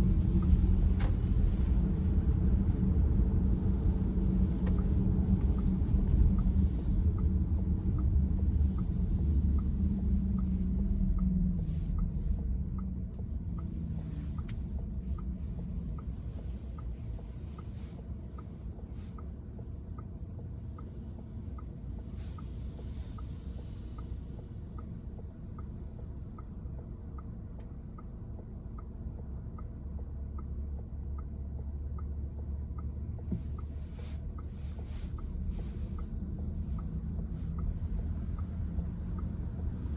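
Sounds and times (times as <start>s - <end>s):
car engine and road rumble: 0.0s - 39.9s
faint regular ticking: 6.3s - 39.9s.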